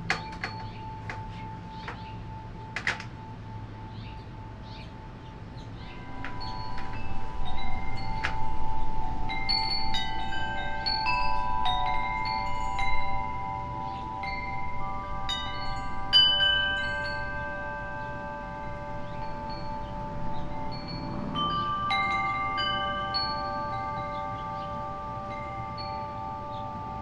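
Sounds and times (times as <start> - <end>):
wind chime ringing: 0.0 - 27.0.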